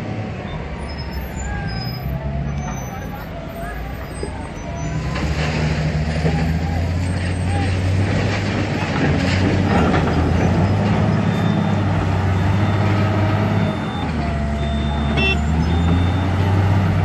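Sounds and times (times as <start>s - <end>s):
wheel loader diesel engine: 0.0s - 17.0s.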